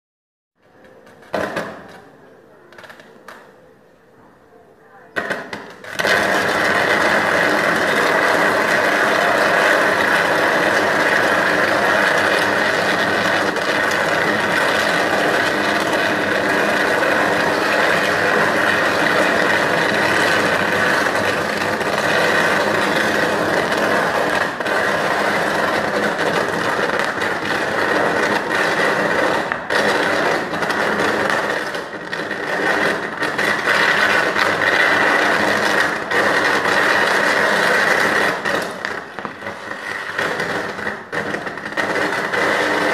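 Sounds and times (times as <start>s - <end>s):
electrical arc crackling buzz: 5.2s - 42.9s.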